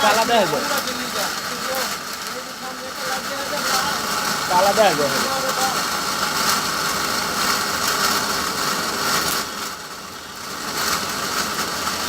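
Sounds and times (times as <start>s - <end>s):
machine running: 0.0s - 12.0s.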